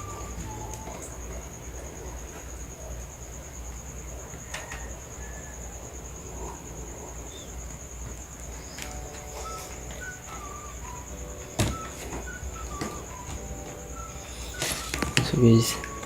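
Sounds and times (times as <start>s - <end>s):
crickets chirring: 0.0s - 16.0s
faint chirping notes: 0.0s - 16.0s.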